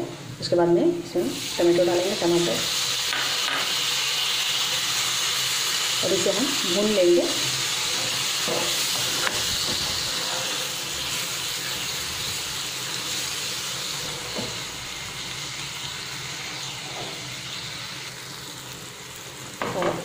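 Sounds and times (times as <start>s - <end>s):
food sizzling in hot oil: 1.1s - 20.0s.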